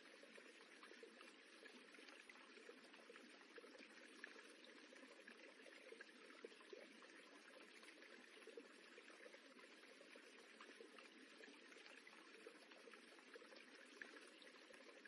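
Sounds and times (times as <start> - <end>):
water rippling and running: 0.0 - 15.0.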